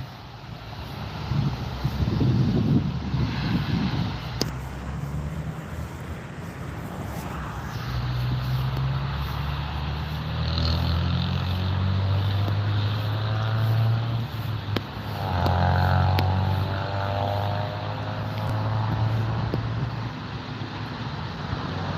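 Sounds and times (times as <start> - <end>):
high engine whine: 0.0 - 21.9.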